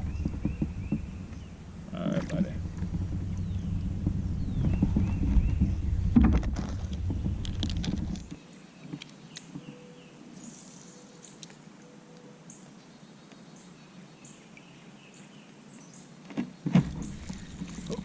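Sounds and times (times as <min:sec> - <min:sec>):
bird chirping: 0:00.0 - 0:18.0
faint outdoor background noise: 0:00.0 - 0:18.0.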